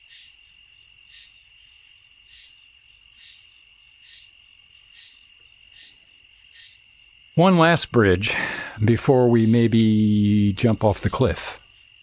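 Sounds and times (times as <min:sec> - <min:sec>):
insect chirp: 0:00.0 - 0:12.0
insects trilling: 0:00.0 - 0:12.0.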